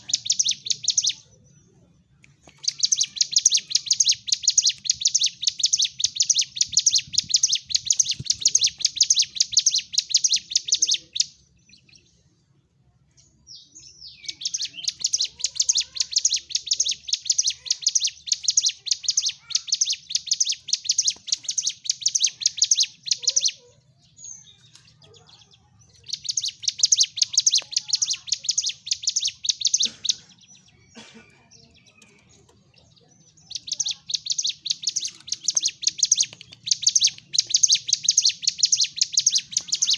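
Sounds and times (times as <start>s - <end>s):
bird chattering trills: 0.0s - 1.4s, 2.3s - 12.0s, 14.1s - 39.9s.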